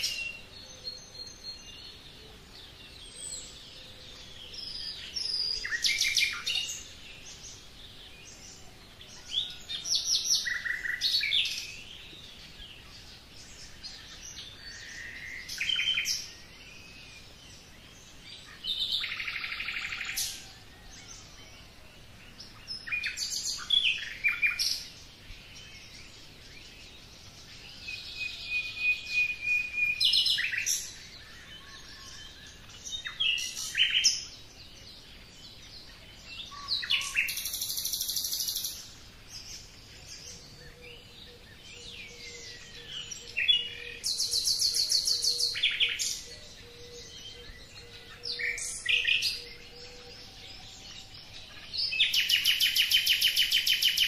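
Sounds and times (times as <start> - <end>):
faint background noise: 0.0 - 54.0
songbirds chirping and trilling: 0.0 - 54.0.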